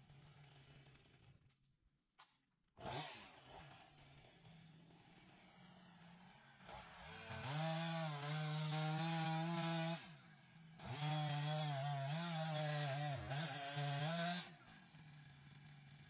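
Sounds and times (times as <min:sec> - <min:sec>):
chainsaw revving: 0:00.0 - 0:01.3, 0:02.8 - 0:16.0.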